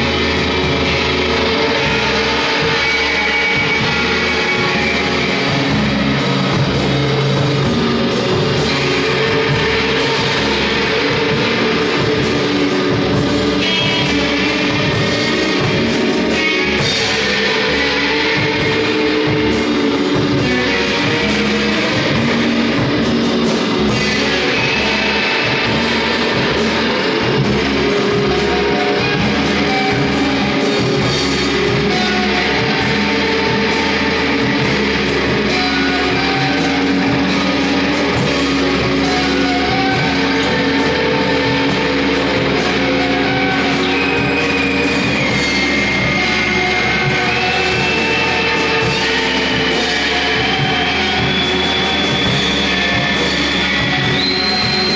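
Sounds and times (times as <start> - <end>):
drum kit: 0.0 - 54.9
electric guitars: 0.0 - 54.9.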